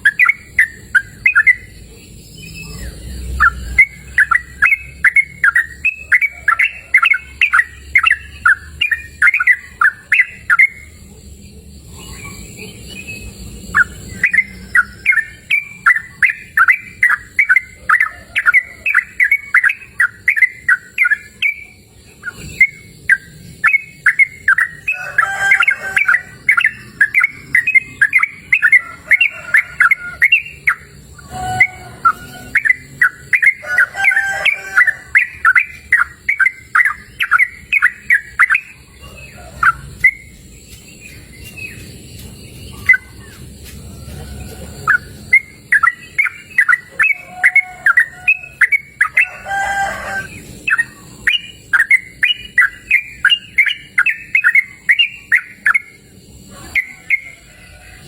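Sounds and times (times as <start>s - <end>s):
bird singing rapid notes: 0.0s - 57.4s.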